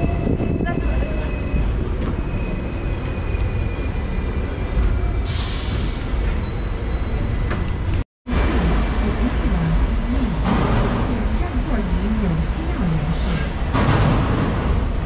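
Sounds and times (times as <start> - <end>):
tram rumbling on tracks: 0.0 - 15.0.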